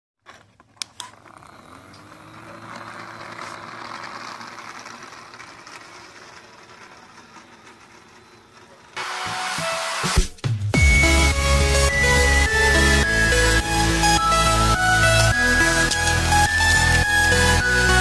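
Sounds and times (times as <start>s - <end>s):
toy propeller motor whirring: 0.8s - 9.6s, 11.8s - 18.0s.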